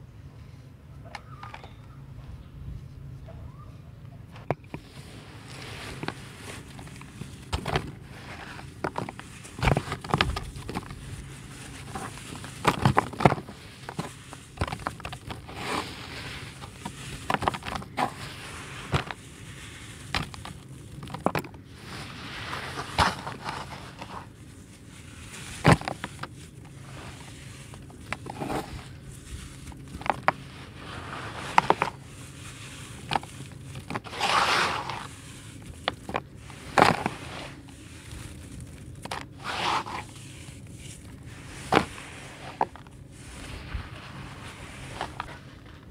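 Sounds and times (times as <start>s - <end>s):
dirt crunching by hand: 4.3s - 45.9s
crumbs falling onto pile: 5.5s - 45.9s.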